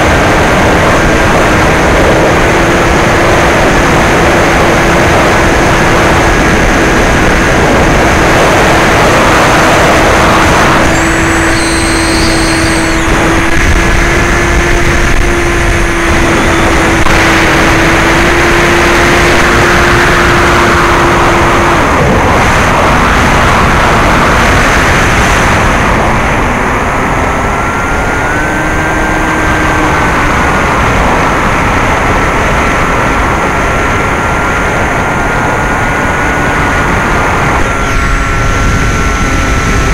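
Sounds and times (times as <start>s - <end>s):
electric motor and propeller: 0.0s - 39.9s
wind rushing on microphone: 0.0s - 39.9s.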